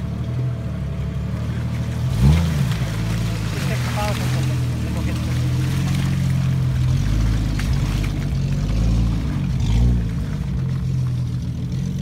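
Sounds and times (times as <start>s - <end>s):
car engine under load: 0.0s - 12.0s
tyres churning in mud: 0.0s - 12.0s.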